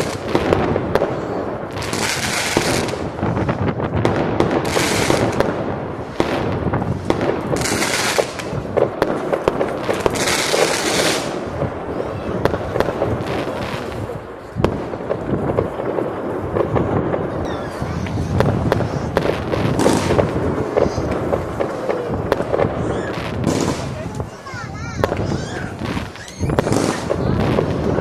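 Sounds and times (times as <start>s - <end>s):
fireworks bangs and crackles: 0.0s - 28.0s
fireworks hissing bursts: 0.0s - 28.0s.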